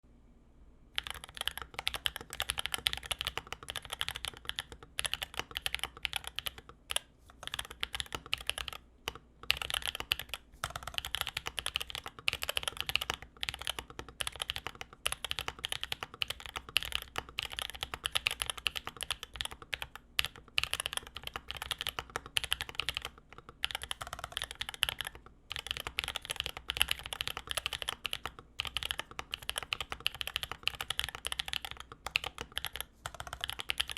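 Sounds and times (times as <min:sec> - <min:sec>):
mechanical keyboard typing: 0:01.0 - 0:33.9.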